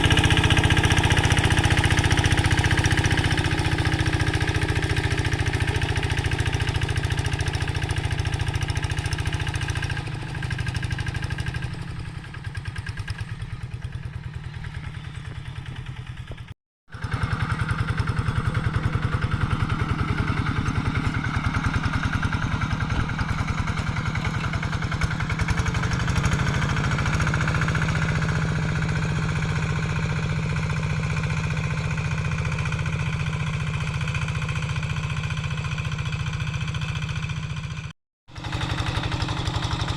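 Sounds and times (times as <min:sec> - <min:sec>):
hand tractor diesel engine: 0:00.0 - 0:39.9.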